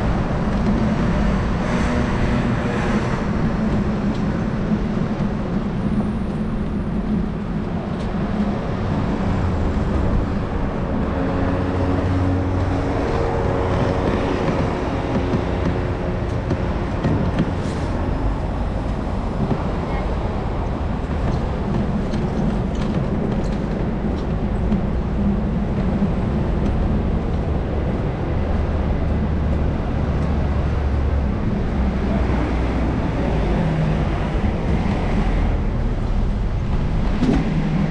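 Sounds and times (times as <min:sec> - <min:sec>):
city street traffic: 0:00.0 - 0:37.9.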